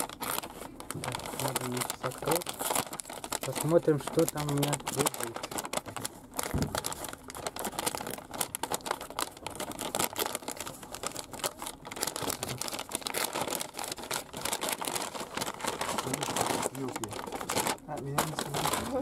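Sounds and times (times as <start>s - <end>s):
paper bag rustling and crinkling: 0.0s - 19.0s.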